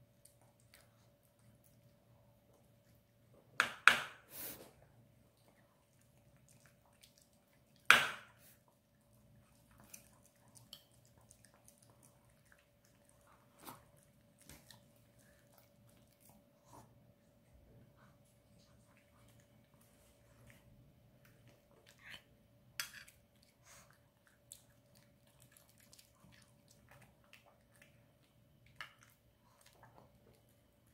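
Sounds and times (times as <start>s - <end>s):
dog chewing and smacking: 5.2s - 22.4s, 23.0s - 30.9s.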